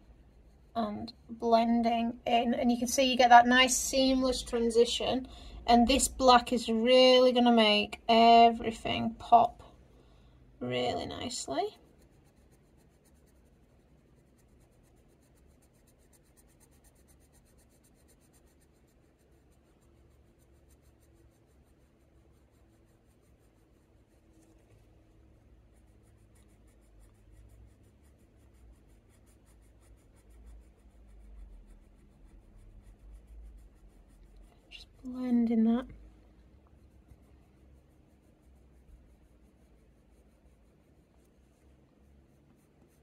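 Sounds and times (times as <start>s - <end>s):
pencil scratching on paper: 0.0s - 9.7s, 10.7s - 43.0s.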